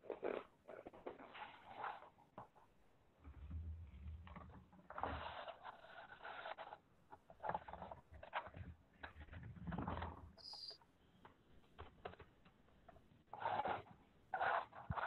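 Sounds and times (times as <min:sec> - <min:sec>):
rustling and scraping: 0:00.0 - 0:10.8, 0:11.7 - 0:15.0.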